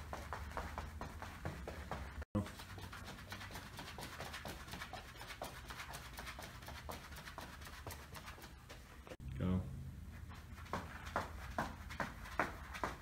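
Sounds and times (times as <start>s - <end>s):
footfalls on artificial turf: 0.0s - 9.2s, 10.2s - 13.0s.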